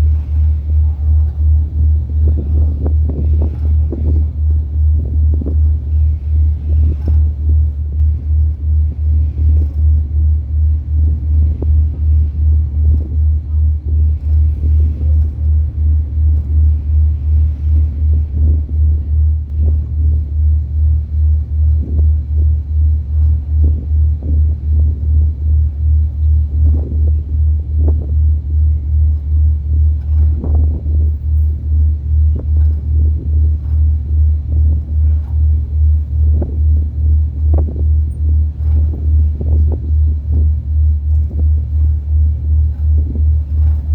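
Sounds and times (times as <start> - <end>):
ferry engine pulsing rumble: 0.0 - 43.9.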